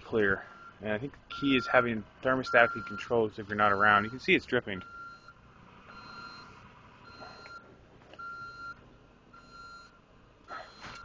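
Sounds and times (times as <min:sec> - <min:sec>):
distant back-up alarm beeping: 0:00.4 - 0:11.0.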